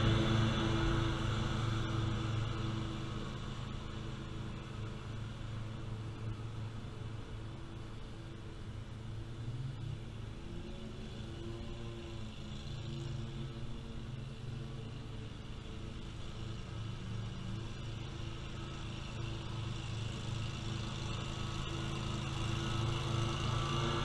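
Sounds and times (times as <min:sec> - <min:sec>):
lawn mower running: 0:00.0 - 0:24.0.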